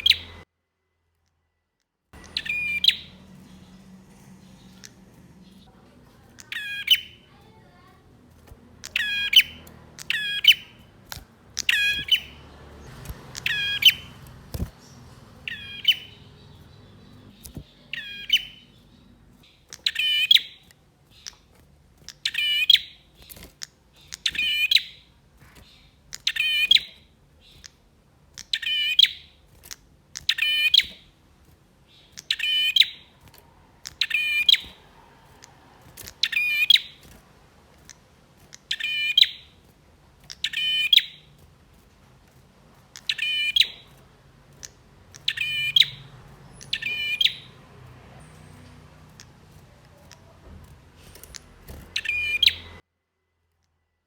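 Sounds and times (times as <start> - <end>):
bird chirping: 0.0 - 0.5, 2.2 - 52.8.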